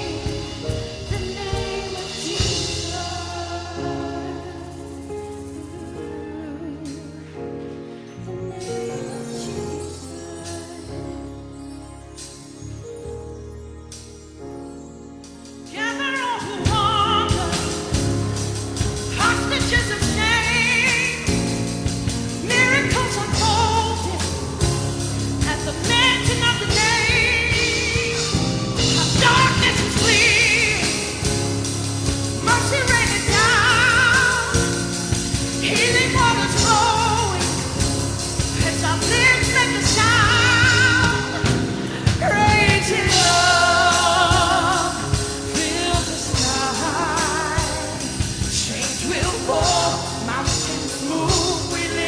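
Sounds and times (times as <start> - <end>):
person singing with vibrato: 0.0 - 11.5, 15.7 - 52.0
live worship band music: 0.0 - 52.0.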